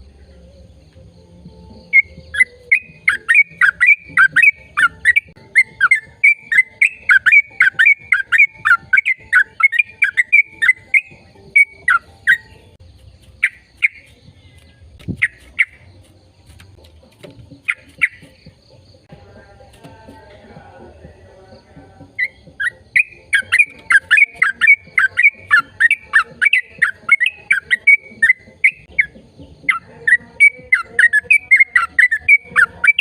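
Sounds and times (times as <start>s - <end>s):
bird chirping: 0.0s - 33.0s.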